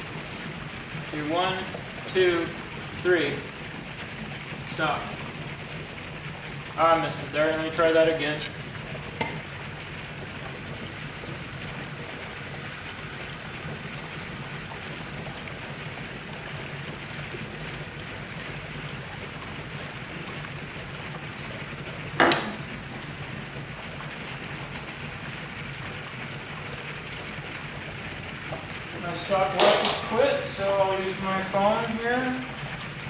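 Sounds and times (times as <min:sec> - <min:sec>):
gas bubbling through water: 0:00.0 - 0:33.0.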